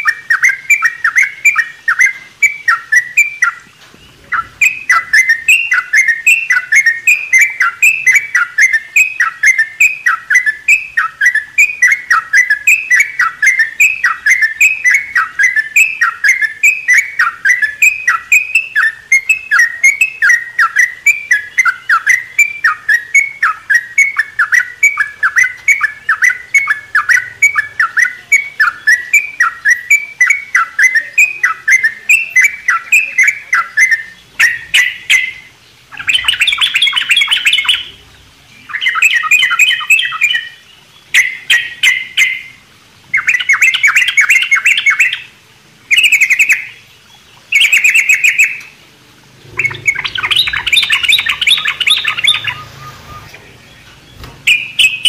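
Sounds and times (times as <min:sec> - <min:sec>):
bubbly bird chatter: 0:00.0 - 0:55.0
bulbuls chirping: 0:00.0 - 0:55.0.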